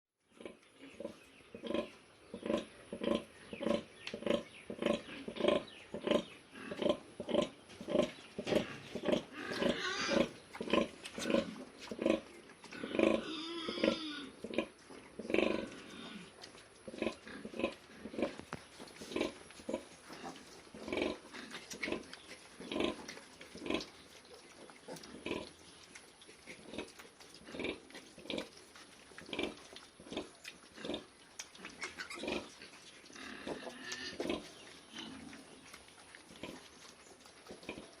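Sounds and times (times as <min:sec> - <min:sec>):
pigs grunting: 0:00.3 - 0:18.4, 0:19.0 - 0:23.9, 0:24.6 - 0:25.6, 0:26.4 - 0:28.6, 0:29.2 - 0:38.0.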